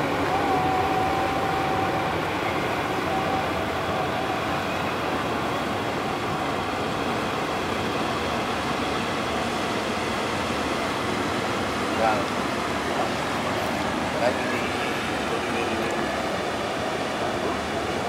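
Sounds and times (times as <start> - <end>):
ship engines droning: 0.0 - 18.0.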